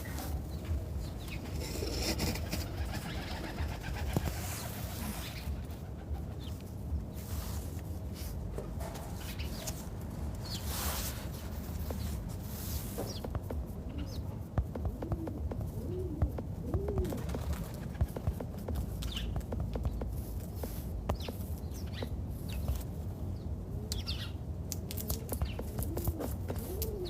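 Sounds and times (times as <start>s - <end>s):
birds calling and cooing: 0.0s - 7.4s, 10.4s - 27.0s
steady low hum: 0.0s - 27.0s.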